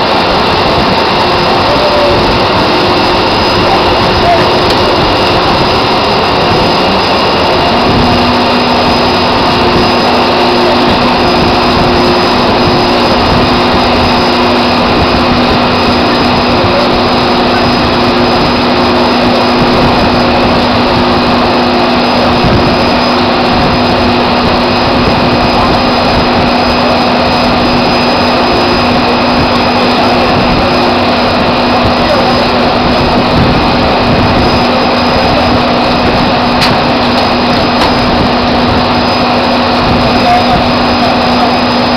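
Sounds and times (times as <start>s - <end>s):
drilling rig machinery roar: 0.0s - 41.9s
steady hum: 0.0s - 41.9s.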